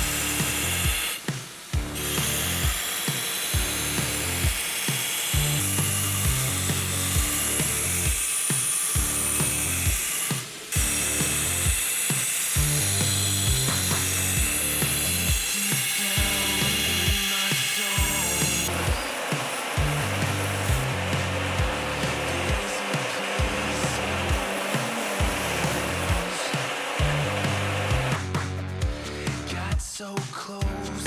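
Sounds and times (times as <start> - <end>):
background music with steady beat: 0.0 - 31.0.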